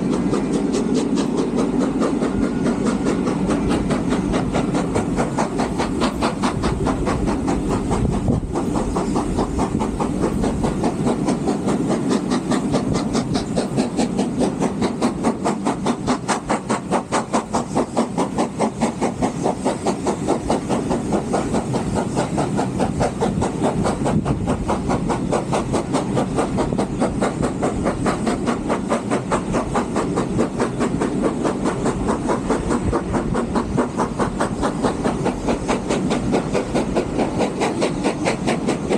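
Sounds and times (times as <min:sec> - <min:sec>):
steam train running: 0:00.0 - 0:38.9.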